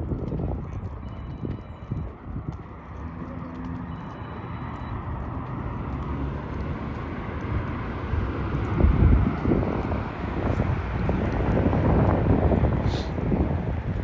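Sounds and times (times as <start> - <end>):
traffic rumble: 0.0 - 14.0
wind buffeting microphone: 0.0 - 14.0.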